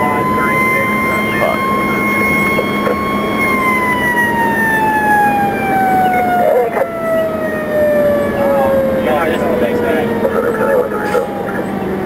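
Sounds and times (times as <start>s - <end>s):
fire engine siren: 0.0s - 12.0s
vehicle noise: 0.0s - 12.0s.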